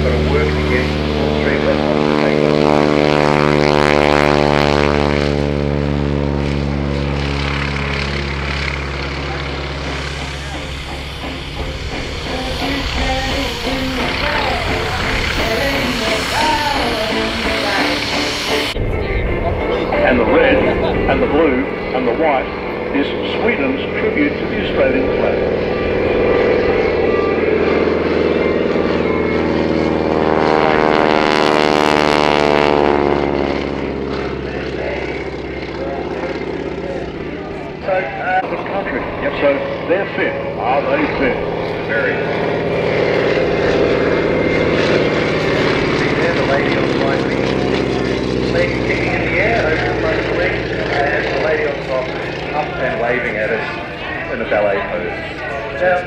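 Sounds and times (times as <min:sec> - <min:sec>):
propeller plane engine passing: 0:00.0 - 0:56.0.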